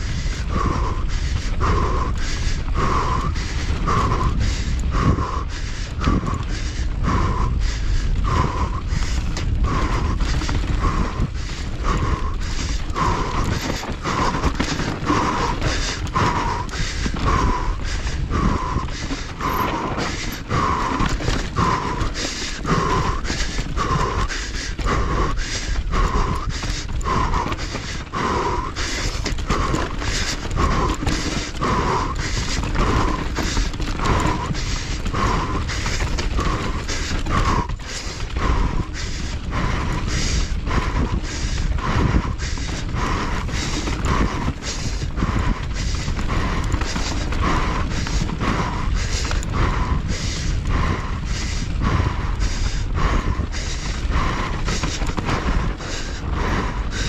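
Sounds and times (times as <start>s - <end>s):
rider breathing hard: 0.0s - 57.0s
tyre and wind noise: 0.0s - 57.0s
bike clattering: 1.2s - 57.0s.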